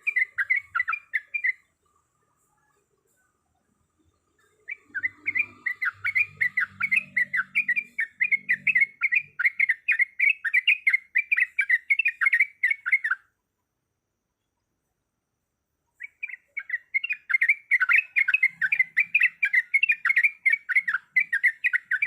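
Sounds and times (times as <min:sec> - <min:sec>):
bird singing chattering notes: 0:00.0 - 0:02.8, 0:04.2 - 0:13.2, 0:16.0 - 0:22.0.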